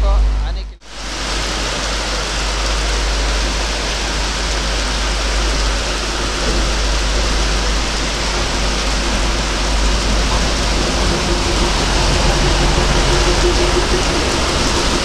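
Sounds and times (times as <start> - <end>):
heavy rain pouring: 0.0 - 15.0
steady low rumble: 0.0 - 15.0.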